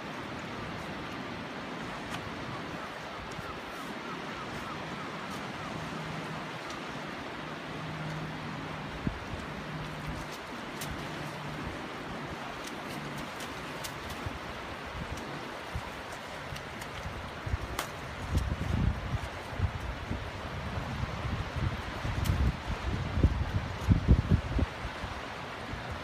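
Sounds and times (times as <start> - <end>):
surf washing over sand: 0.0 - 26.0.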